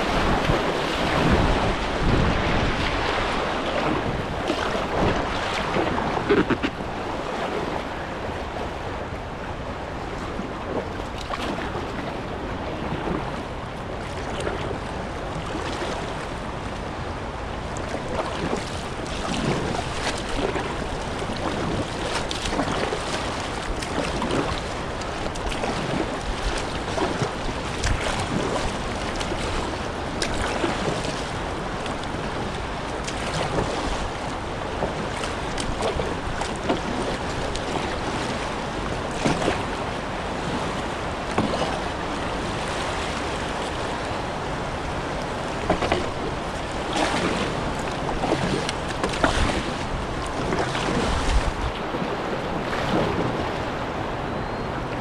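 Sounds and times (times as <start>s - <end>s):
paddle splashes: 0.0s - 55.0s
river water rushing: 0.0s - 55.0s
wind buffeting microphone: 0.0s - 55.0s.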